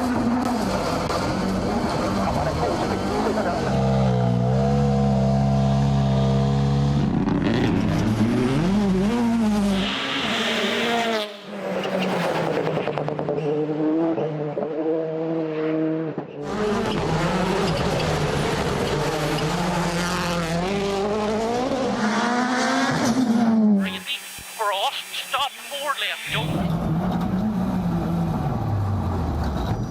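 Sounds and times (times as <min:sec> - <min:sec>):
rally car engines revving: 0:00.0 - 0:24.4.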